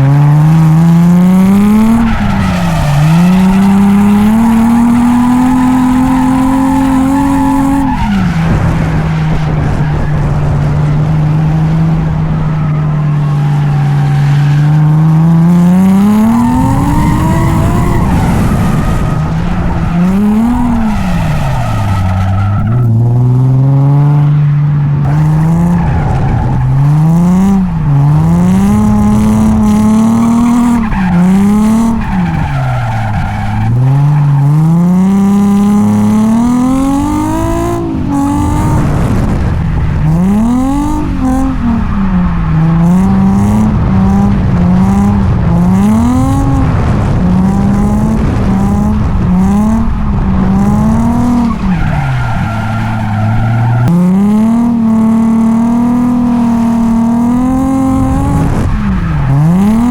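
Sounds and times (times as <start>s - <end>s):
car engine revving: 0.0s - 59.9s
tyres skidding: 0.0s - 59.9s.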